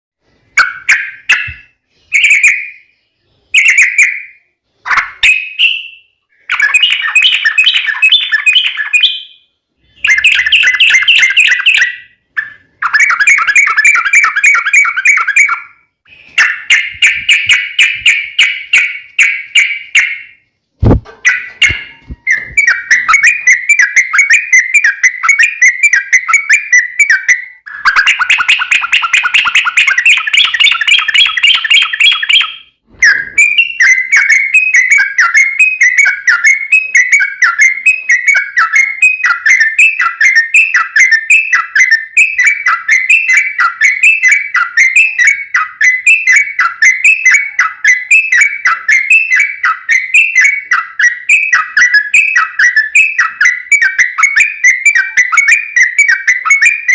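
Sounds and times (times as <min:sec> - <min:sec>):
bird chirping whistles: 0:00.2 - 0:56.9.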